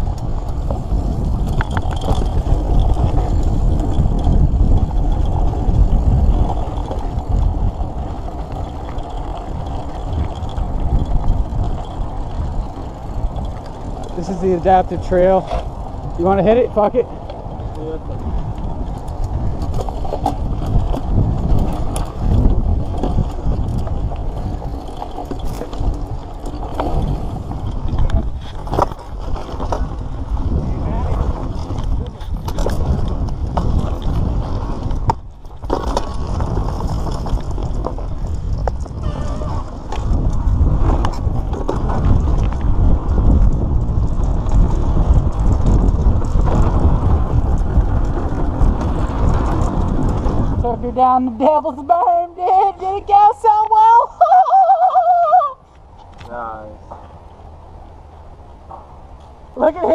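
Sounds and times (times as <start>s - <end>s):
bike clicks and rattles: 0.0s - 54.0s
tyres rumbling over dirt: 0.0s - 54.0s
wind on microphone: 0.0s - 59.9s.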